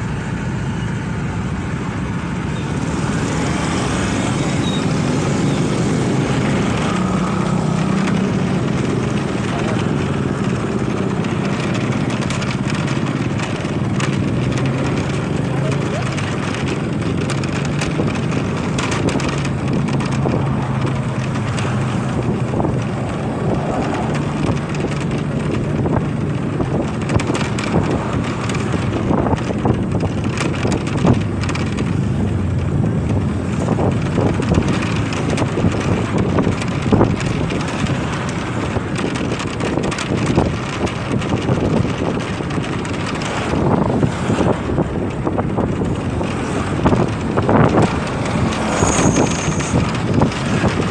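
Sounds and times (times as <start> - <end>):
motorcycle engine running: 0.0 - 50.9
wind buffeting microphone: 0.0 - 50.9.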